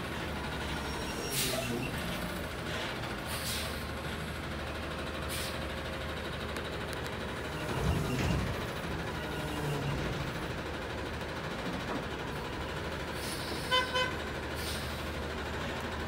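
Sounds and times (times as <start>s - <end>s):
garbage truck engine humming: 0.0s - 16.0s.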